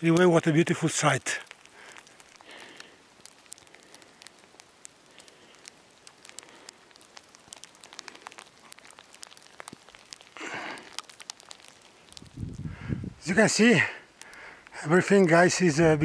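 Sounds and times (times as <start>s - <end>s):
falling snow ticking: 0.0s - 16.0s.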